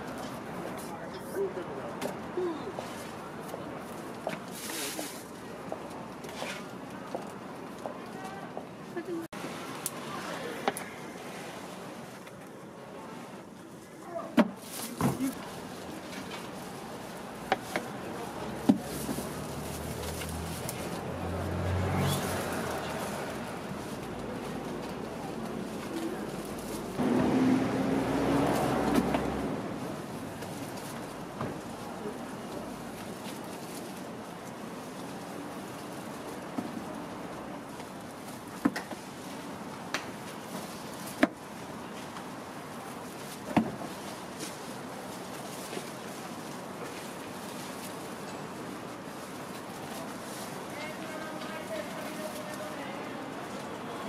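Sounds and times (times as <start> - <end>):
background noise: 0.0 - 54.0.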